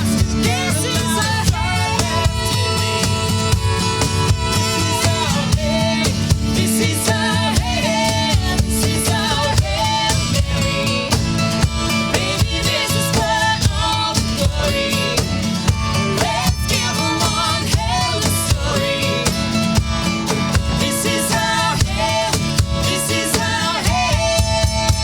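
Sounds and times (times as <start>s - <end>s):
person singing: 0.0s - 11.3s, 12.1s - 25.0s
strummed acoustic guitar: 0.0s - 25.0s.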